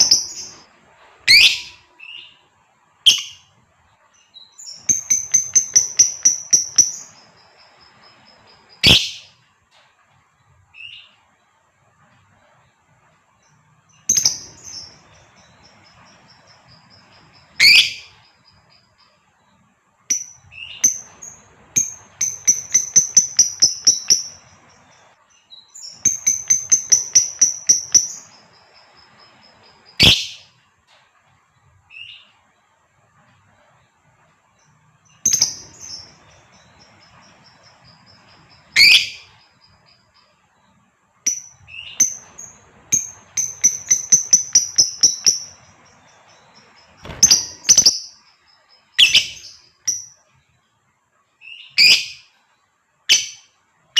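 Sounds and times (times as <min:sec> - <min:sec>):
lovebird chirping: 0:00.0 - 0:09.5, 0:10.7 - 0:11.6, 0:13.3 - 0:30.7, 0:33.5 - 0:53.9.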